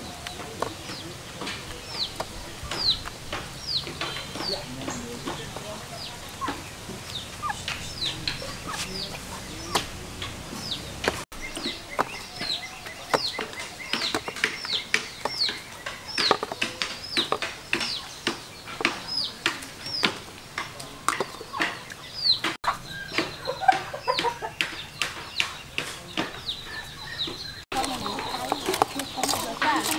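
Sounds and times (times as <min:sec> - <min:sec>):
chickens and chicks chirping: 0:00.0 - 0:29.9.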